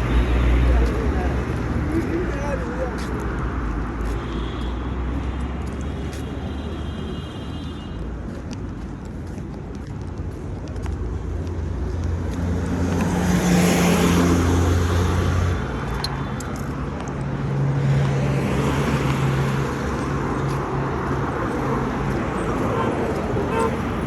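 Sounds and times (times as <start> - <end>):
road noise: 0.0 - 24.0
vehicles passing close by: 0.0 - 24.0.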